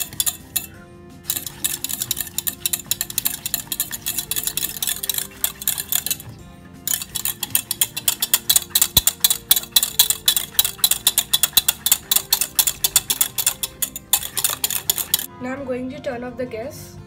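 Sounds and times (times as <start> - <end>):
whisk clicking against metal pot: 0.0 - 6.3, 6.9 - 15.3.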